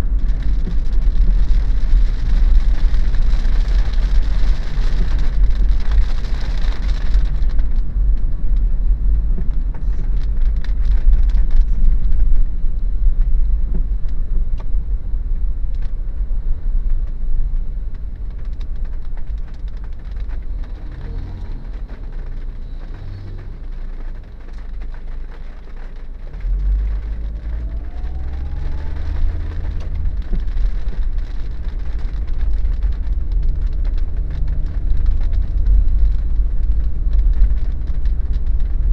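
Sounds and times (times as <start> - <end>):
car road and engine rumble: 0.0 - 38.9
rain patter and hiss: 0.0 - 38.9.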